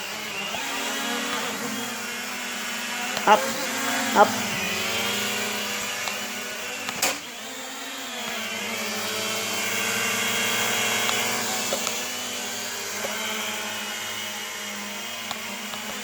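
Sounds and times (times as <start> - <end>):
toy drone propellers whining: 0.0 - 16.0.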